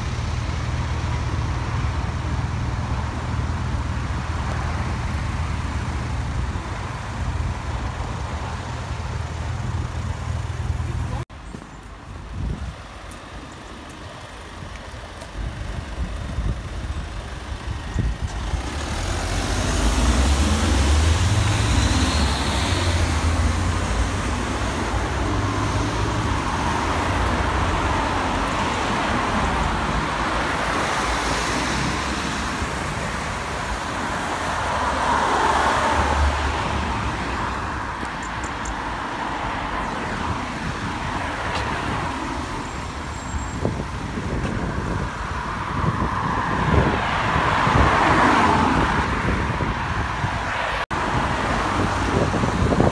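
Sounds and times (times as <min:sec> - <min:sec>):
road traffic passing: 0:00.0 - 0:52.9.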